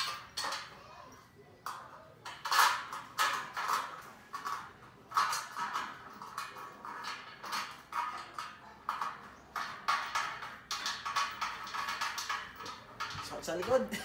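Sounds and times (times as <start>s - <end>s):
metal parts clinking and knocking: 0.0s - 14.0s.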